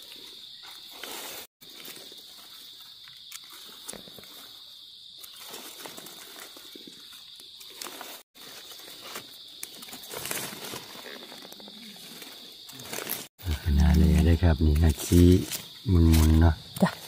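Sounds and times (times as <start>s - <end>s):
insects high-pitched drone: 0.0s - 17.0s.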